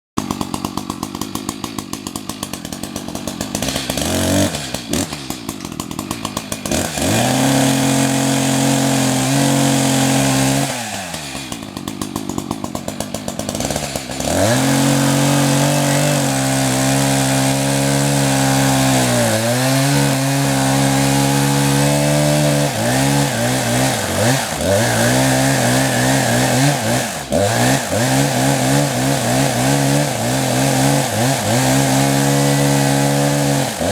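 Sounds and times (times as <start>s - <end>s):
chainsaw idling and revving: 0.2s - 33.9s.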